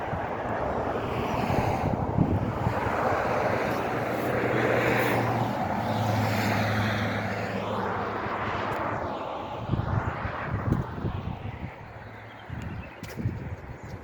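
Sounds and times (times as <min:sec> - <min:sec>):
passing engine droning: 0:00.0 - 0:12.4.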